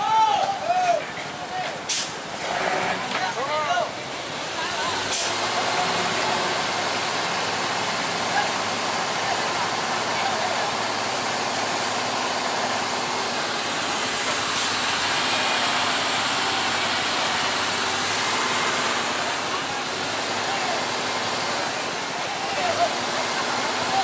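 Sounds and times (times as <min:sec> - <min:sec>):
truck engines rumbling: 0:00.0 - 0:24.0.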